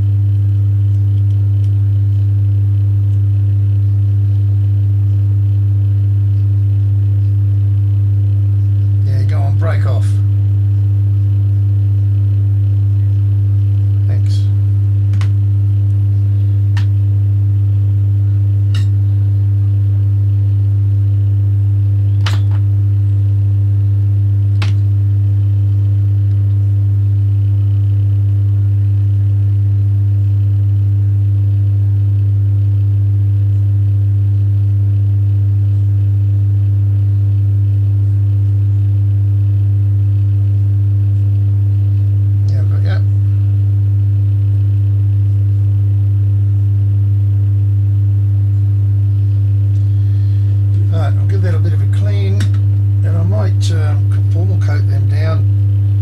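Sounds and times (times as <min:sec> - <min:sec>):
loud steady low hum: 0:00.0 - 0:56.0.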